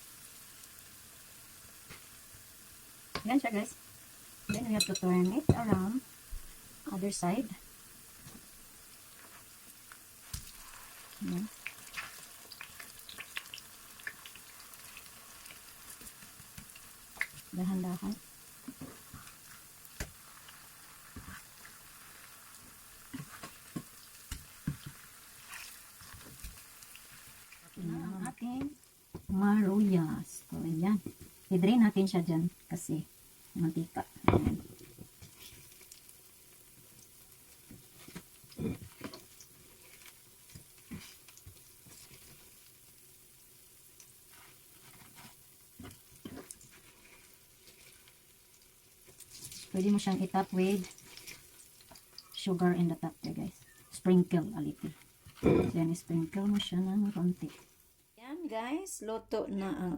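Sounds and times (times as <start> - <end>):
fritters sizzling in hot oil: 0.0 - 58.2.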